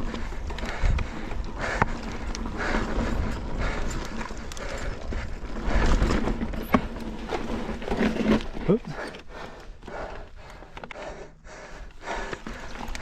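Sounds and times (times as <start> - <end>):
bike knocking and rattling: 0.0 - 13.0
bike tyres rolling on rock: 0.0 - 13.0.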